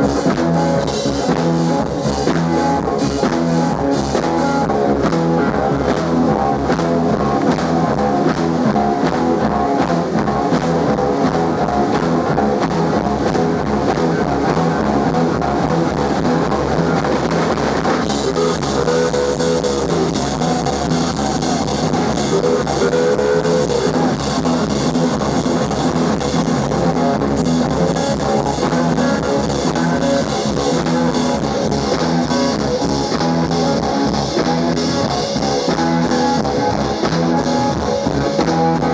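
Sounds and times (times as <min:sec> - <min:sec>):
bass guitar: 0:00.0 - 0:38.9
drum kit: 0:00.0 - 0:38.9
electric slide guitar: 0:00.0 - 0:38.9.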